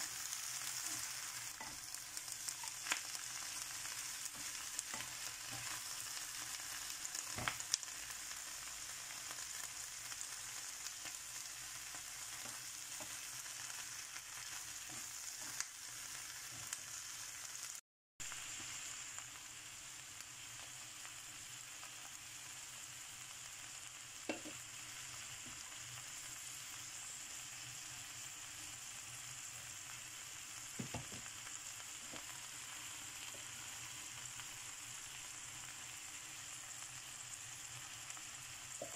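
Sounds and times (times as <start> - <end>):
shrimp and onions sizzling in pan: 0.0 - 38.9.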